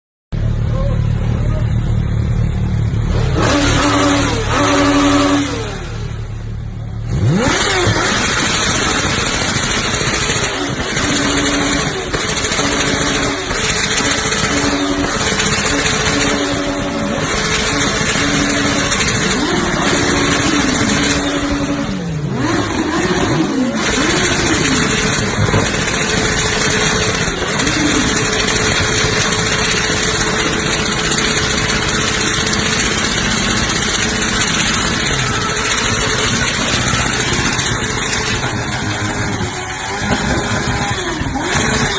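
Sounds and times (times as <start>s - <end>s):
motorcycle engine revving hard: 0.6s - 41.9s.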